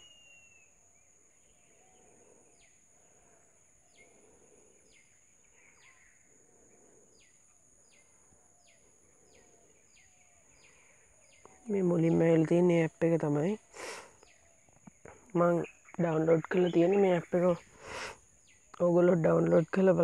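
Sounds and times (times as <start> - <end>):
distant bird chirping: 0.0 - 20.0
faint background hiss: 0.0 - 20.0.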